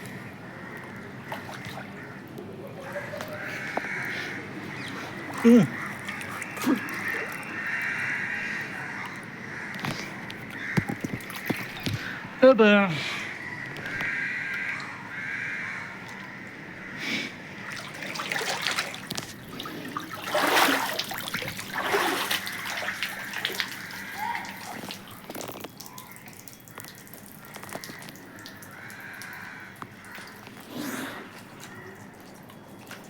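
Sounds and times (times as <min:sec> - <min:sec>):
water splashing and sloshing: 0:00.0 - 0:33.0.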